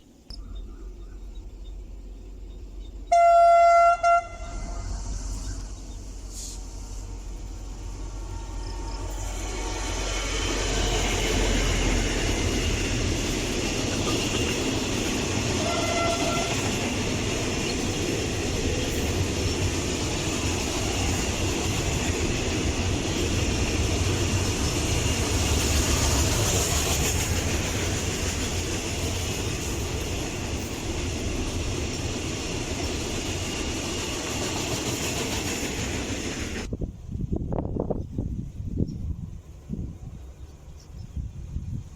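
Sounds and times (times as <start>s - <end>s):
train passing on rails: 0.0s - 41.9s.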